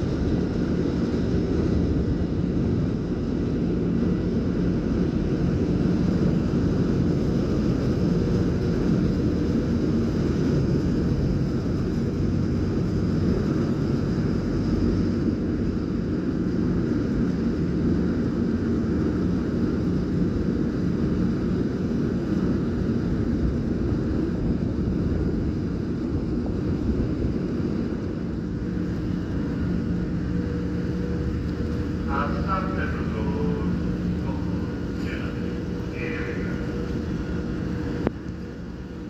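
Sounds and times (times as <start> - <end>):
ferry engines droning: 0.0 - 39.0.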